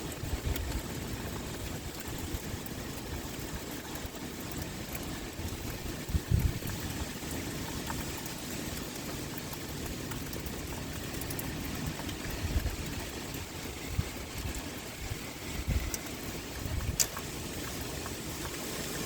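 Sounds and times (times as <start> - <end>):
pouring rain: 0.0 - 19.0
wind: 0.0 - 19.0.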